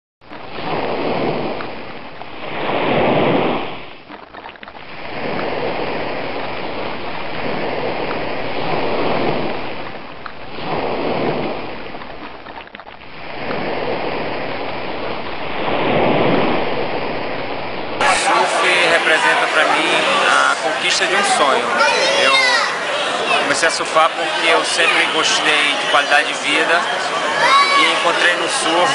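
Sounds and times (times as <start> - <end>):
waves breaking and washing in: 0.2 - 28.9.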